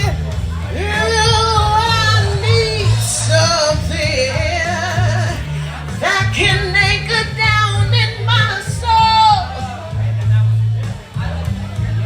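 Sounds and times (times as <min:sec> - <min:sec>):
person singing with vibrato: 0:00.0 - 0:09.9
repeating bass line: 0:00.0 - 0:12.0.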